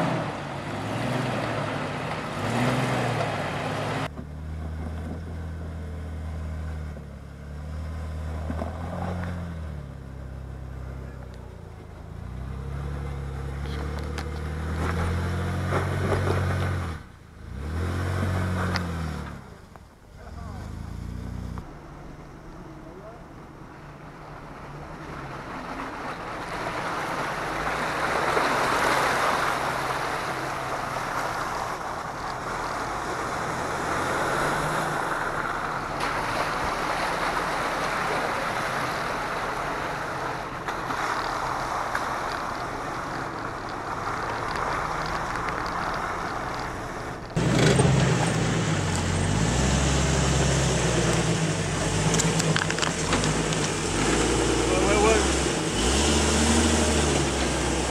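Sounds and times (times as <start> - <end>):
engine crawling up rocks: 0.0 - 57.9
off-road vehicle engine: 0.0 - 57.9
tyres rushing through water: 0.0 - 57.9.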